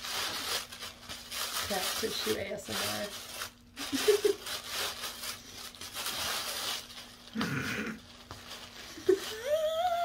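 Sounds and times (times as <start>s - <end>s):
tissue paper rustling: 0.0s - 7.4s, 8.0s - 10.0s.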